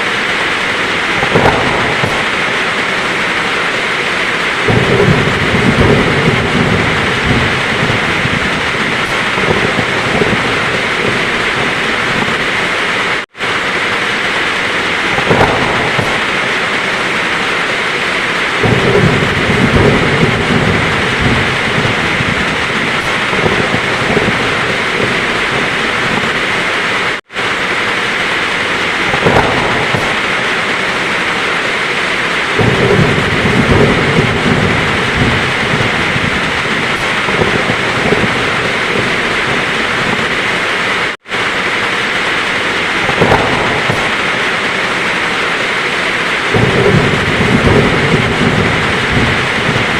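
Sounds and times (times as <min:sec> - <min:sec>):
heavy rain falling: 0:00.0 - 0:49.9
rolling thunder: 0:00.0 - 0:49.9.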